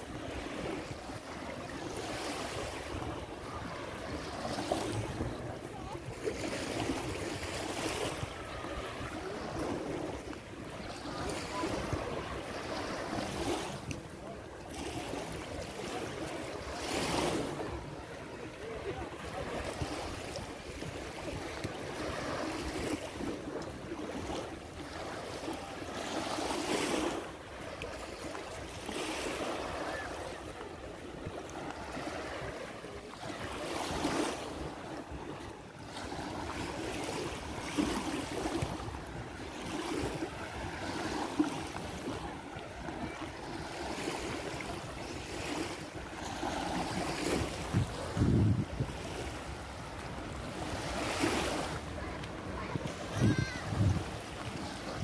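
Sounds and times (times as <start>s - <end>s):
small waves lapping on sandy shore: 0.0s - 55.0s.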